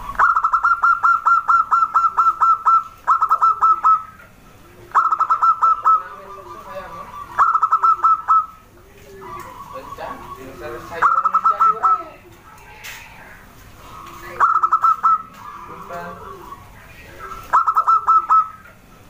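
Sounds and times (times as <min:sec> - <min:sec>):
dove cooing staccato: 0:00.0 - 0:19.0.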